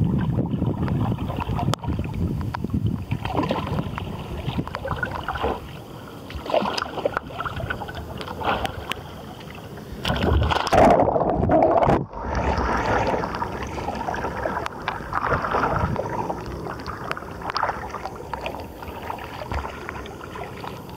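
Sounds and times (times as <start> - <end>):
paddle dipping in water: 0.0 - 20.9
water sloshing around kayak: 0.0 - 20.9
water streaming off deck: 0.0 - 20.9.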